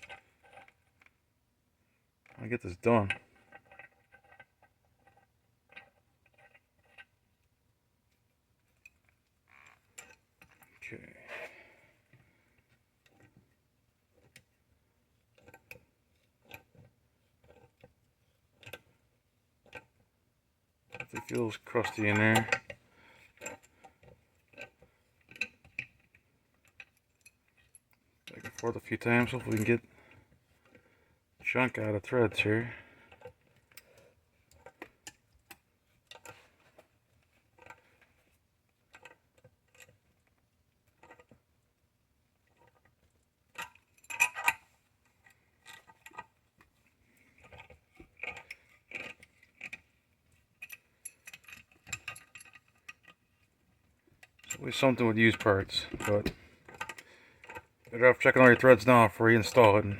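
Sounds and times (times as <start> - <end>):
faint metal clicks and ticks: 2.2 - 59.9.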